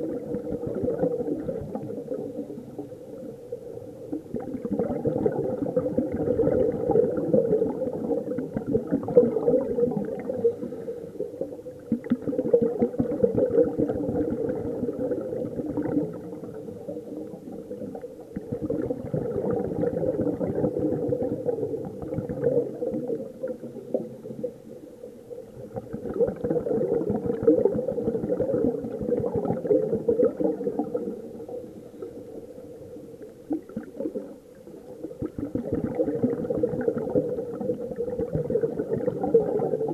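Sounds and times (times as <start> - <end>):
scuba regulator bubbles underwater: 0.0 - 39.9.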